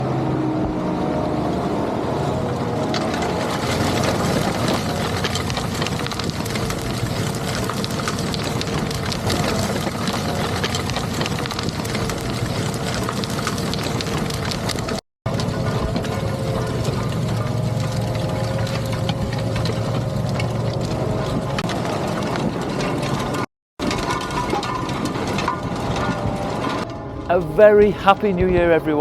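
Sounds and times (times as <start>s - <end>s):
tractor diesel engine under load: 0.0s - 28.4s
small ticks and rattles: 3.4s - 26.8s.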